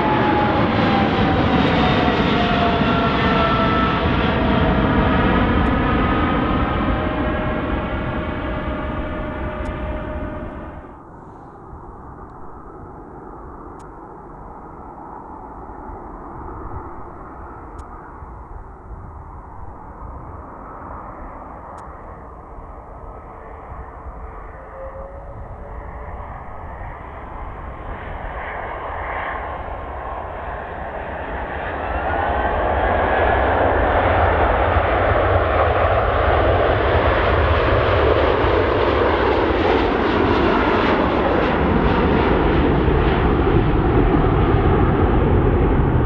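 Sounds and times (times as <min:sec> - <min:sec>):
jet engines roaring: 0:00.0 - 0:11.2, 0:19.3 - 0:46.0.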